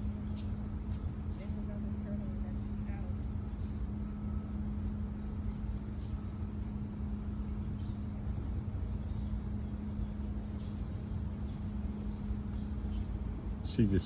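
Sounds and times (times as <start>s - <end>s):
constant low hum: 0.0s - 14.0s
low background rumble: 0.0s - 14.0s.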